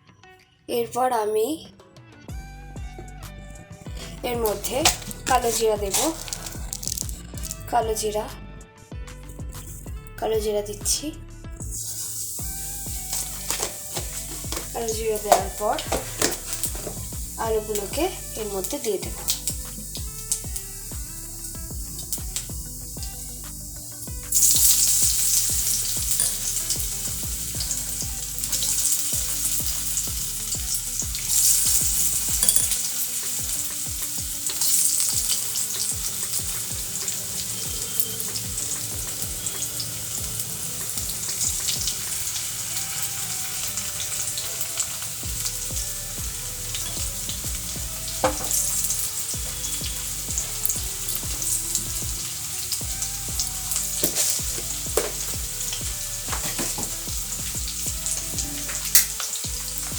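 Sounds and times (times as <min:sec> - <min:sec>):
potatoes sizzling in oil: 0:03.9 - 0:08.3, 0:11.6 - 0:59.9.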